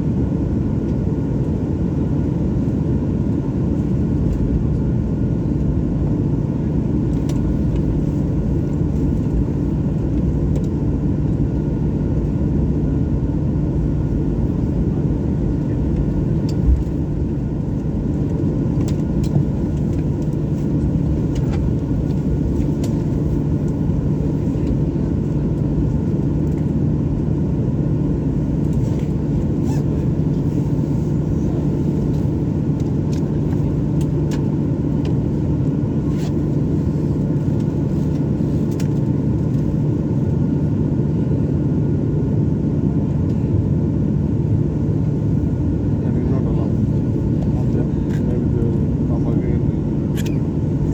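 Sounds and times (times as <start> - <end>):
jet engines rumbling: 0.0 - 50.9.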